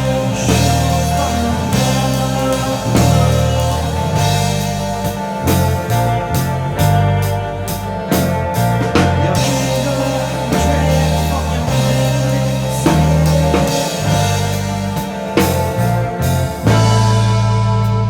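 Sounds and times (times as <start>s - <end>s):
band instrumental: 0.0s - 18.0s
bass drum and snare: 0.0s - 18.0s
stepping bass line: 0.0s - 18.0s.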